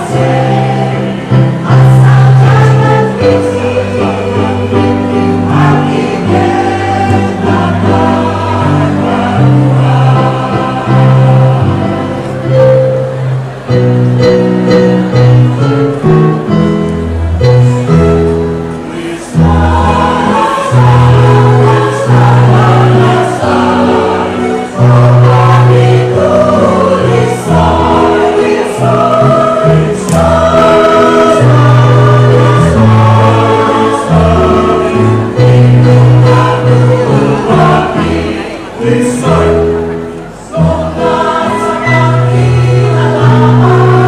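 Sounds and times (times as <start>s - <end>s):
choir singing in parts: 0.0s - 13.2s, 17.4s - 44.0s.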